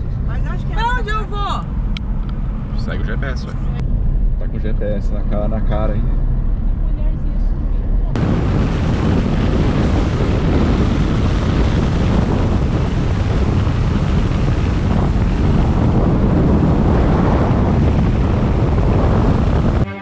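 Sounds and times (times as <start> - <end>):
wind buffeting microphone: 0.0 - 19.9
road noise: 0.0 - 20.0.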